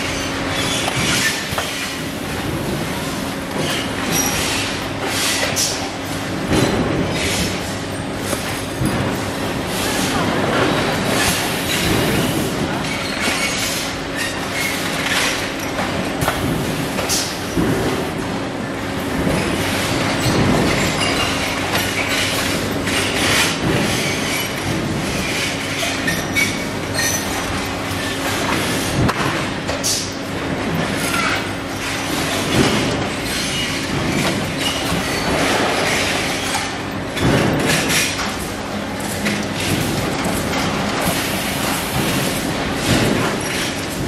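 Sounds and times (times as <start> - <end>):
conveyor clatter: 0.0 - 44.0.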